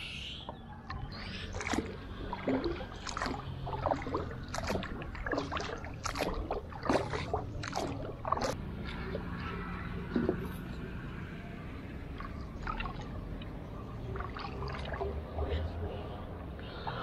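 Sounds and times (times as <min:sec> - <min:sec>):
paddle splashing water: 0:00.9 - 0:15.9.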